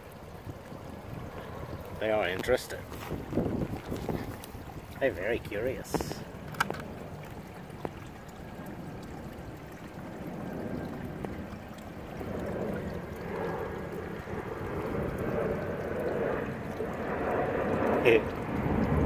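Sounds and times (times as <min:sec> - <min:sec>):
water trickling in pond: 0:00.0 - 0:19.0
wind buffeting microphone: 0:00.0 - 0:19.0.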